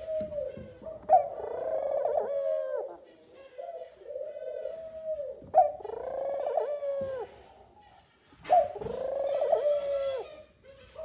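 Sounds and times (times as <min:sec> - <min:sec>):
dove cooing: 0:00.0 - 0:07.4, 0:08.5 - 0:11.0.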